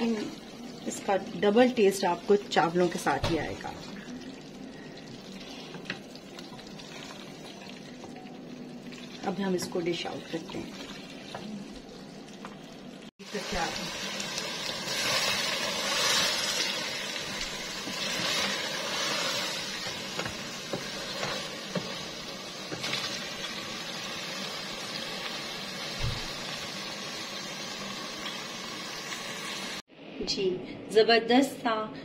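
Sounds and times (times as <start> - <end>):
curry sizzling in a pot: 0.0 - 29.9.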